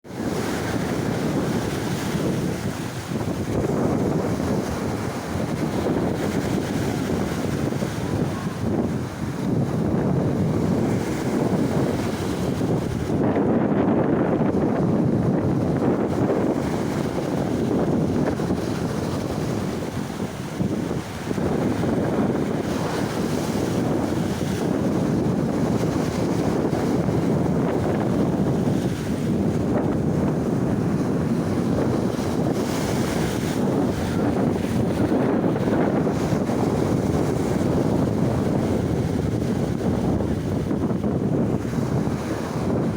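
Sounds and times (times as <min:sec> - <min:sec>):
surf breaking on shore: 0:00.0 - 0:42.9
wind buffeting microphone: 0:00.0 - 0:42.9.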